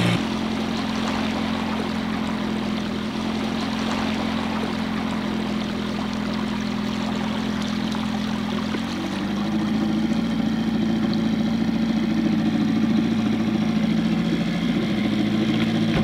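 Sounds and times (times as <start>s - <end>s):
outboard motor running: 0.0s - 16.0s
water rushing along hull: 0.0s - 16.0s.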